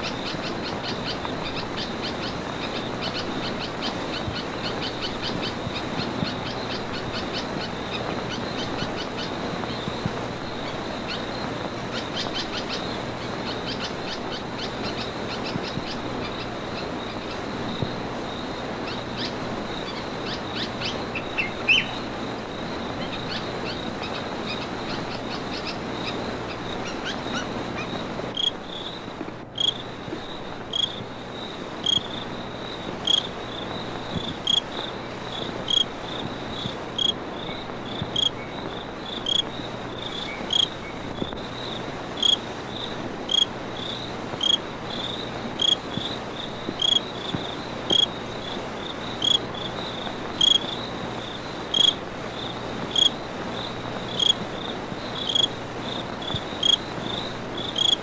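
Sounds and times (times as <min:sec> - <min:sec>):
background hiss: 0:00.0 - 0:58.0
crickets chirping: 0:00.0 - 0:58.0.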